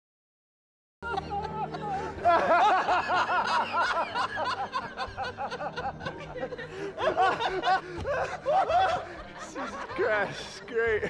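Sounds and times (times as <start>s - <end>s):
men laughing hard: 1.0s - 11.0s.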